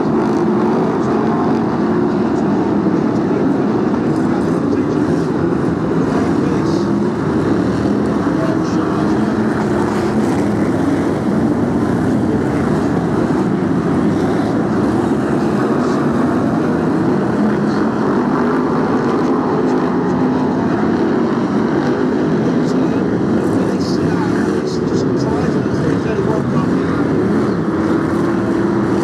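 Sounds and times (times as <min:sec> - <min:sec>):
racing car engines roaring: 0:00.0 - 0:29.0.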